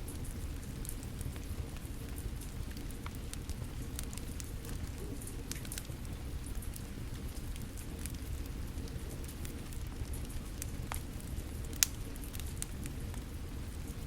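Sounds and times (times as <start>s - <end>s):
steady rain falling: 0.0s - 14.0s
wood fire crackling and popping: 0.0s - 14.0s.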